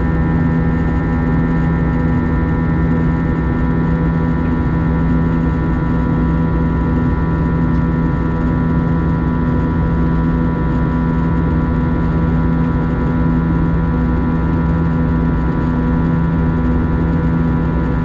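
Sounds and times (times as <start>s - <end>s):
jet cabin drone: 0.0s - 18.0s.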